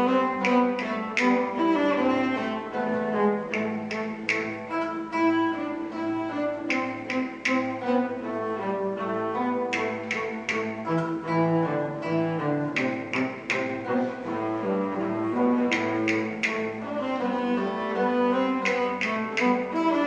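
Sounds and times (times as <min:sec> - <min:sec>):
bowed bass string notes: 0:00.0 - 0:20.0.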